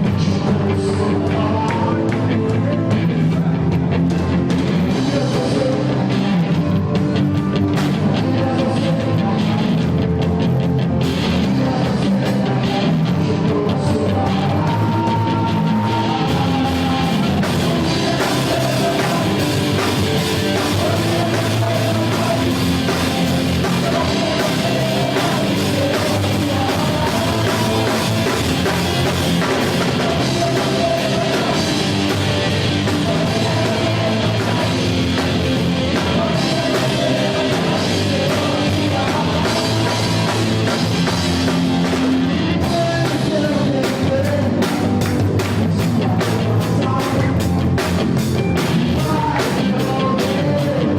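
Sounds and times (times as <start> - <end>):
drum kit: 0.0 - 50.9
guitars: 0.0 - 50.9
person singing: 0.0 - 50.9
rock band playing: 0.0 - 50.9.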